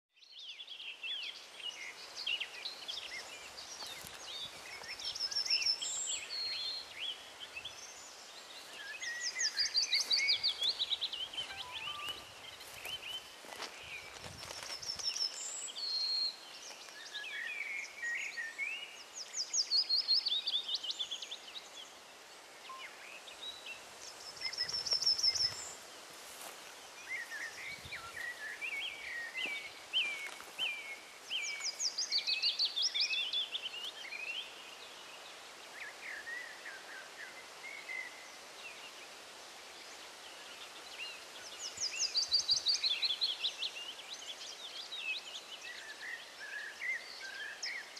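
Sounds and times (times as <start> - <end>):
songbirds singing: 0.1 - 47.9
background hiss: 0.2 - 47.9.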